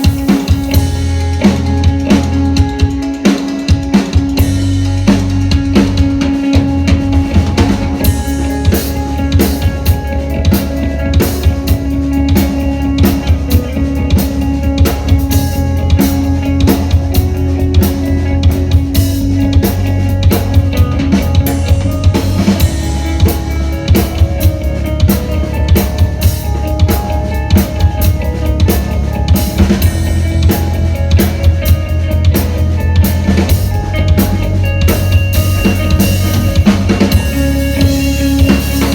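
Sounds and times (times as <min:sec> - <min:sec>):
drum kit fast beat: 0:00.0 - 0:38.9
rock band playing live: 0:00.0 - 0:38.9.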